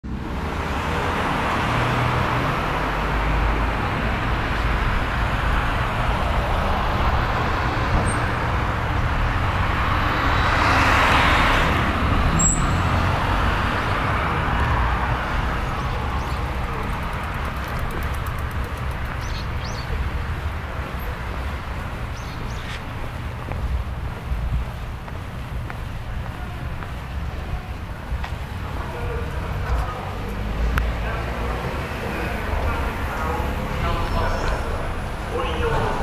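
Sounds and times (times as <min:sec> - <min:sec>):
road traffic: 0:00.0 - 0:36.0
vehicle passing: 0:00.0 - 0:36.0.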